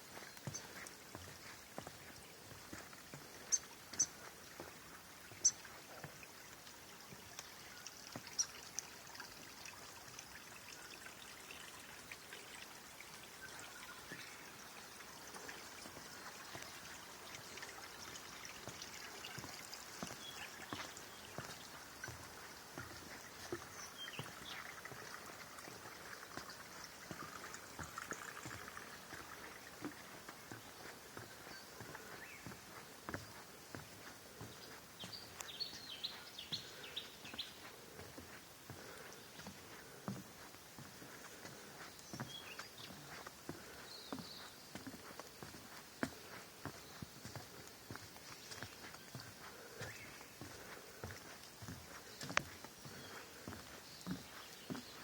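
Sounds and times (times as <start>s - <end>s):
stream trickling: 0.0s - 55.0s.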